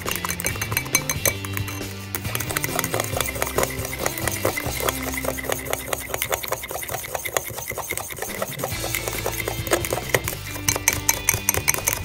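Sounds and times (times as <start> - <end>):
whisk scraping and clinking bowl: 0.0 - 12.0.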